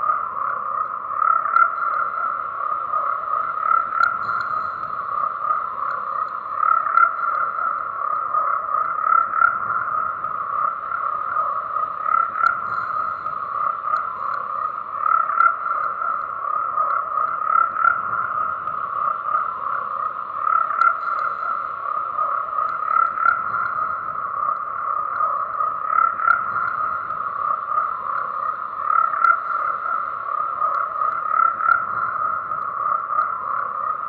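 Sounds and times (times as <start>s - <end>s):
chorus of frogs croaking: 0.0s - 34.0s.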